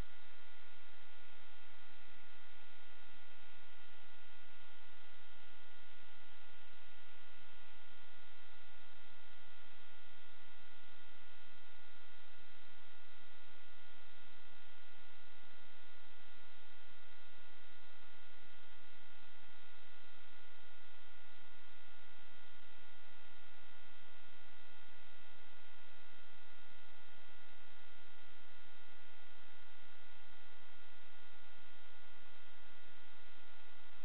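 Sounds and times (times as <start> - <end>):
electronic hum and hiss: 0.0 - 34.0.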